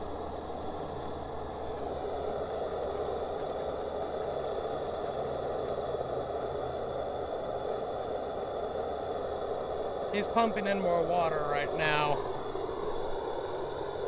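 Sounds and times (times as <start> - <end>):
low steady hum: 0.0 - 14.0
steam hissing: 1.4 - 14.0.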